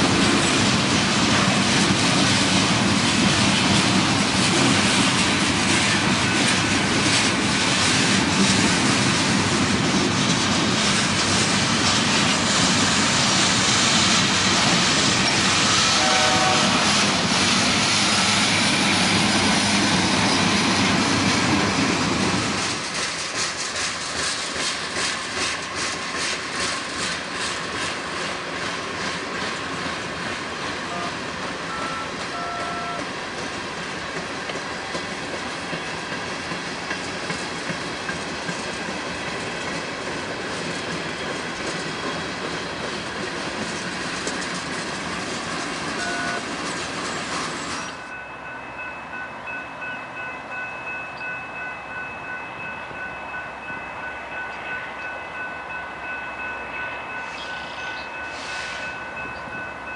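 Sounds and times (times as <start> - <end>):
train wheels clickety-clack: 0.0 - 48.2.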